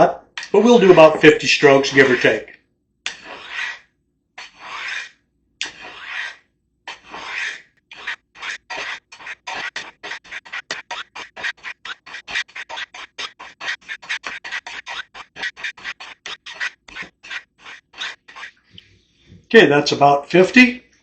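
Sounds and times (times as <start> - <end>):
knife rasping on ceramic sharpener: 0.4 - 2.5, 3.1 - 18.9.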